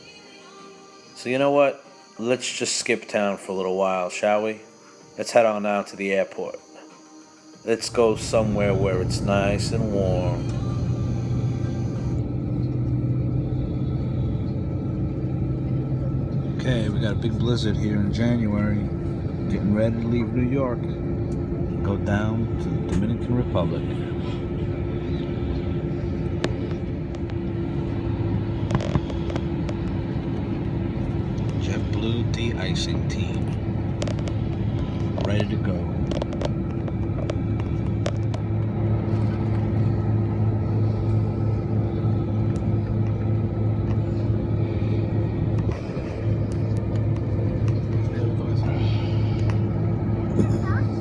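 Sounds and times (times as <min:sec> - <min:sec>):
constant hum: 0:00.0 - 0:51.0
vehicle rumble: 0:07.7 - 0:51.0.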